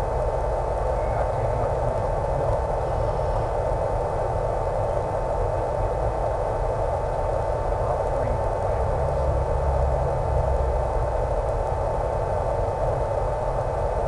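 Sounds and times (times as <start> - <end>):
motor and propeller hum: 0.0 - 14.0
static hiss: 0.0 - 14.0.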